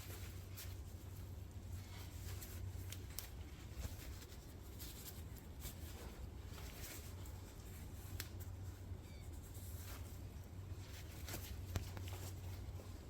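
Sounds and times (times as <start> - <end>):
light clicks and handling noises: 0.0 - 13.0
steady low hum: 0.0 - 13.0.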